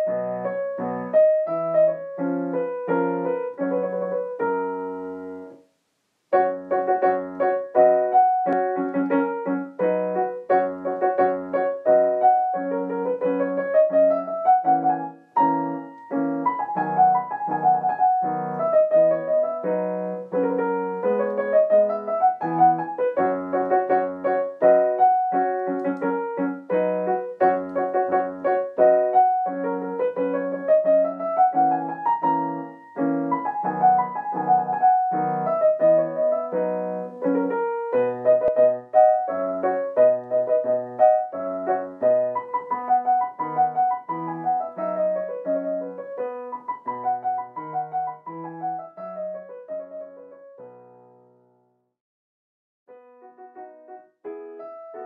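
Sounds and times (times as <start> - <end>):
slow chordal piano piece: 0.0 - 5.6, 6.3 - 51.6, 52.9 - 55.0.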